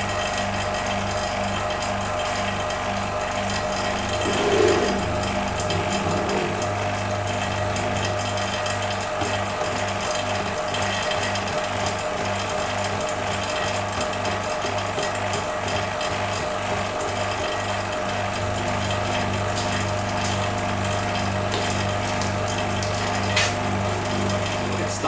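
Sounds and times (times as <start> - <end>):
vacuum pump humming: 0.0 - 25.0.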